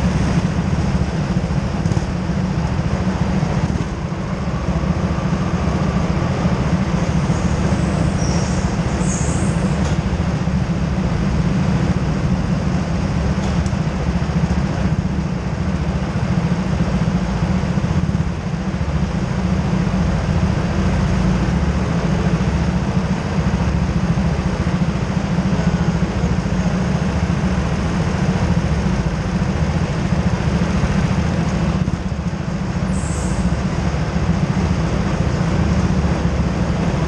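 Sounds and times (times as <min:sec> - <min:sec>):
go-kart engines idling: 0:00.0 - 0:37.0.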